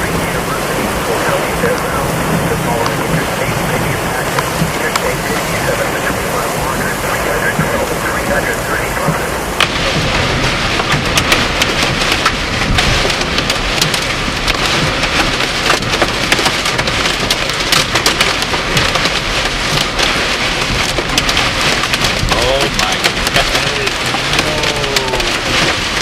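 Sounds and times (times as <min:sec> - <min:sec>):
heavy rain pouring: 0:00.0 - 0:26.0
raindrops tapping a hard surface: 0:00.0 - 0:26.0.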